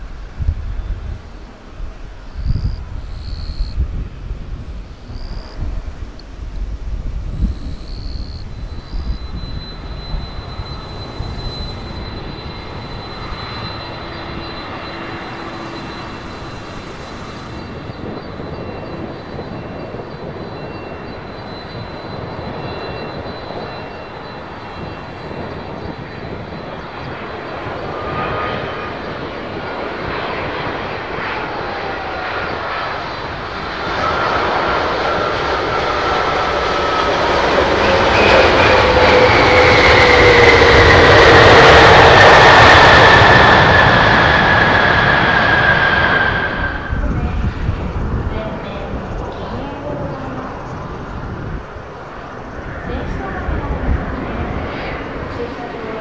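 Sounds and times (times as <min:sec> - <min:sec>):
jet engine rush: 0:00.0 - 0:56.0
high whining tones: 0:07.2 - 0:53.4.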